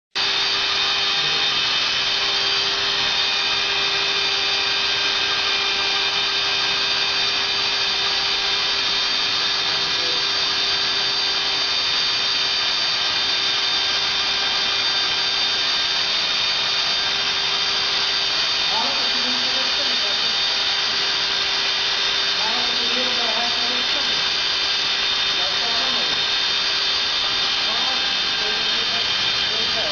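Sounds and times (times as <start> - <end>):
plastic welder motor whine: 0.2 - 29.9.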